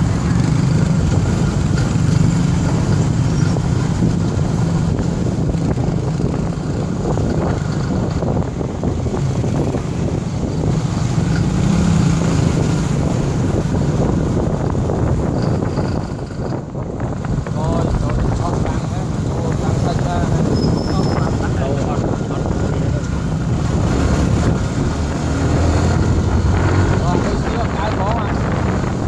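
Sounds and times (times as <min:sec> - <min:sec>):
motorbike engine rumble: 0:00.0 - 0:29.0
road traffic noise: 0:00.0 - 0:29.0.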